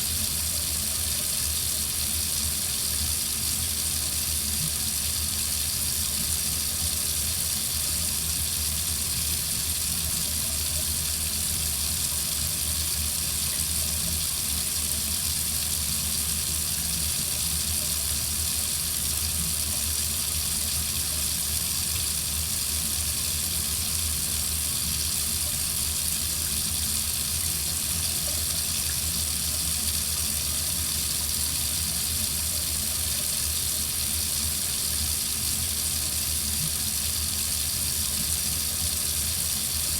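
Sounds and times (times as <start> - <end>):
faucet running into sink: 0.0 - 39.9.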